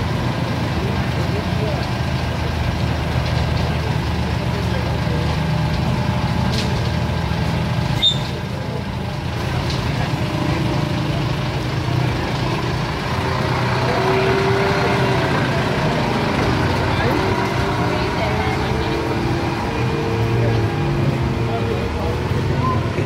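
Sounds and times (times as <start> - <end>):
street traffic: 0.0 - 23.0
vehicle engine rumbling: 0.0 - 23.0.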